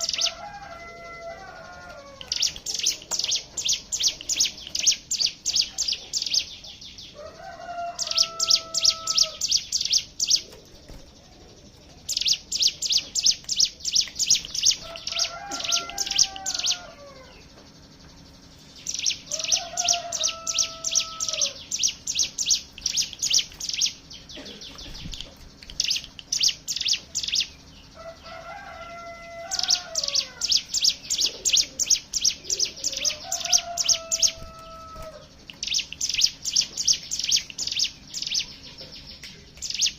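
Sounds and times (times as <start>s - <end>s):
birds singing rattling song: 0.0s - 39.9s.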